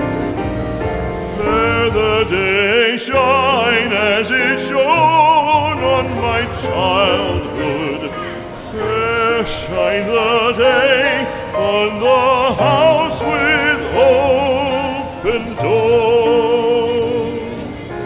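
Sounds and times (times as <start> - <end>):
operatic singing with vibrato: 1.2 - 18.0.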